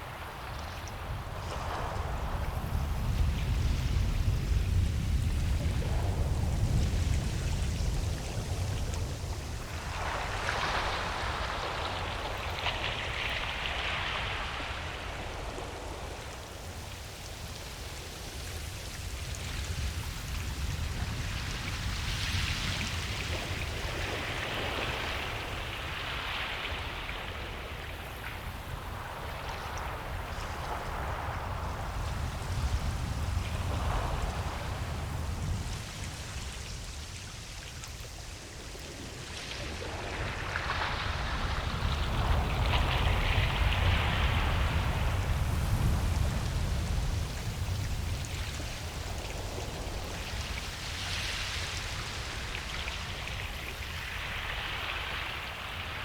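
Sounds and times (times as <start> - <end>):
low rumble of surf: 0.0 - 56.0
waves washing onto beach: 0.0 - 56.0.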